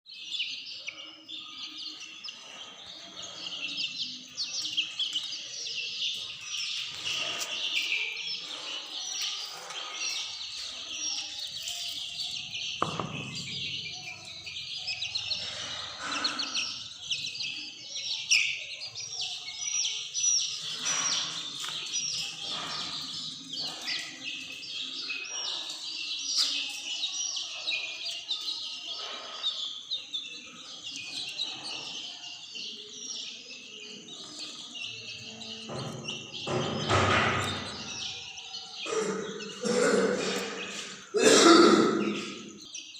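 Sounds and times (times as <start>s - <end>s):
chicks peeping: 0.1s - 42.9s.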